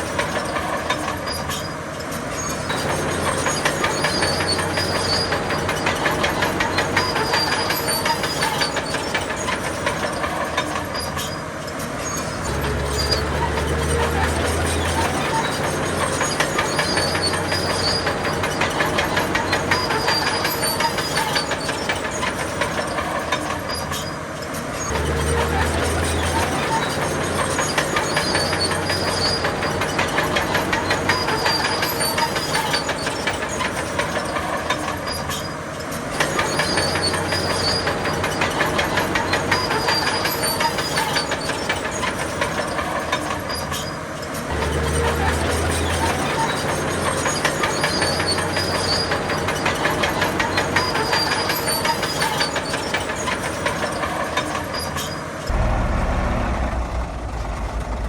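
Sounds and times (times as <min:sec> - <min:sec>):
diesel engine under load: 0:00.0 - 0:58.0
steel tracks clattering: 0:00.0 - 0:58.0.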